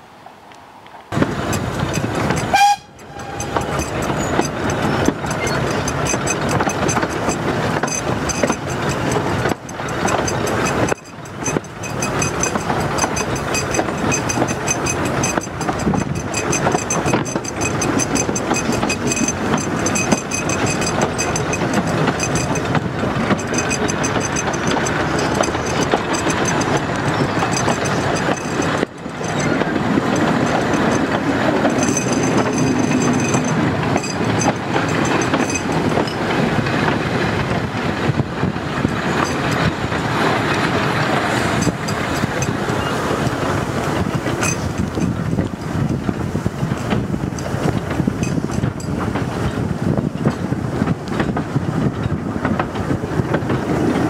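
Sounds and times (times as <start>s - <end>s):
train wheels clattering on rails: 1.0s - 54.0s.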